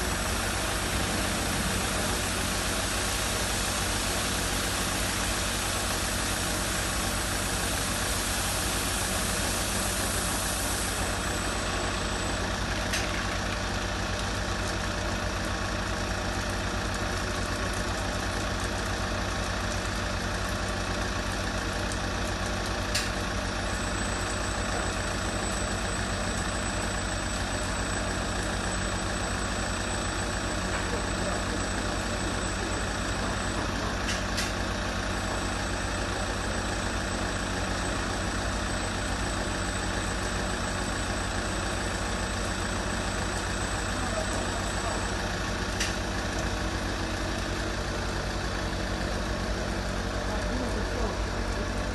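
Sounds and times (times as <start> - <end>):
car wash machine running: 0.0 - 51.9.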